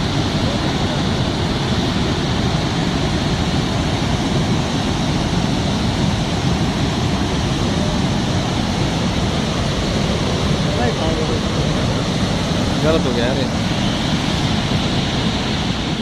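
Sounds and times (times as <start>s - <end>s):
flooded river roaring: 0.0s - 16.0s.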